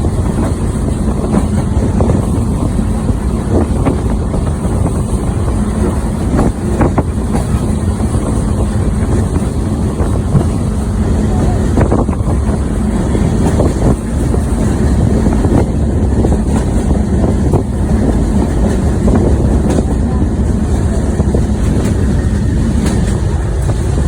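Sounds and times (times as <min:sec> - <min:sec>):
train rumbling on track: 0:00.0 - 0:24.0
wheels clicking on rails: 0:00.0 - 0:24.0.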